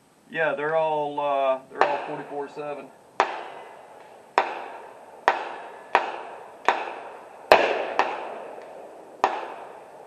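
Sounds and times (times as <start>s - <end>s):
gunshots echoing: 1.8s - 10.0s.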